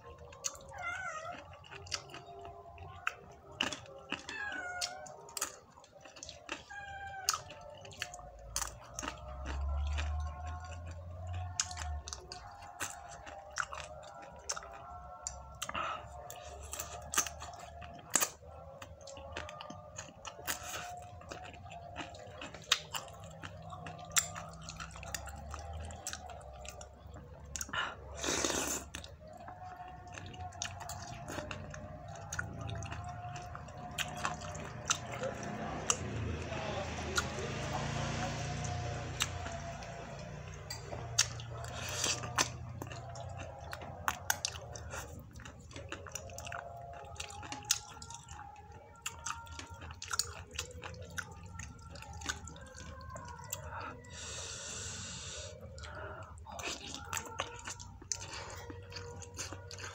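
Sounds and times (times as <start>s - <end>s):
person chewing and slurping noodles: 0.0s - 59.9s.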